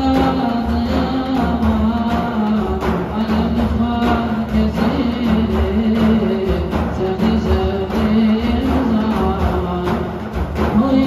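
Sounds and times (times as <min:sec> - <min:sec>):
frame drums beating: 0:00.0 - 0:11.0.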